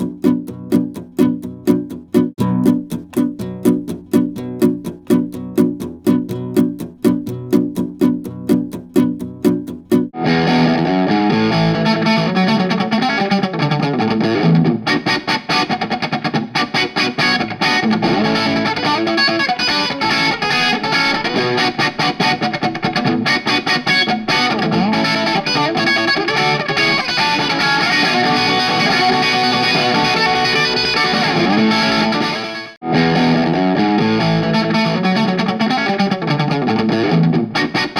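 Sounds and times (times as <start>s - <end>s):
acoustic guitar picked: 0.0s - 37.9s
distorted electric guitar: 0.0s - 37.9s.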